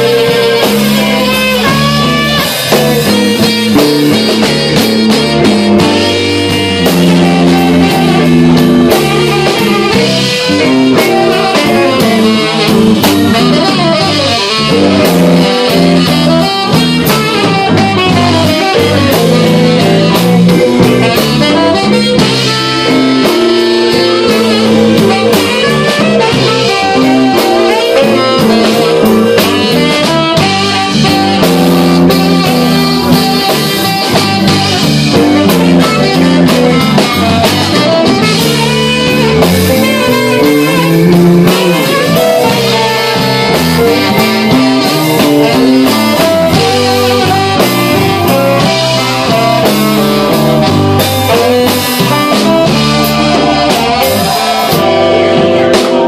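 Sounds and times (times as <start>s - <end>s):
blues band playing: 0.0s - 56.0s
saxophone: 0.0s - 56.0s.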